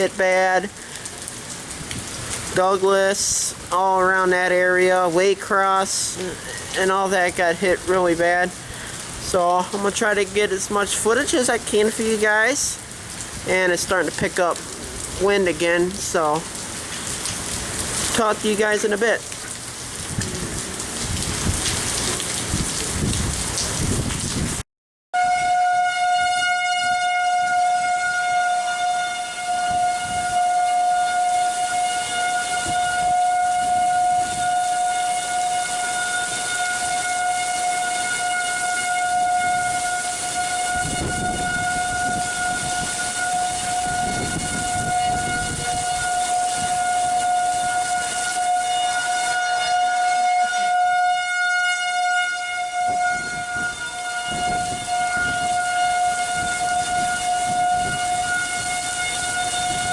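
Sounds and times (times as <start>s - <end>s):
rain: 0.0s - 24.6s, 25.2s - 59.9s
storm warning siren: 0.0s - 24.6s, 25.2s - 59.9s
wind: 0.0s - 24.6s, 25.2s - 59.9s.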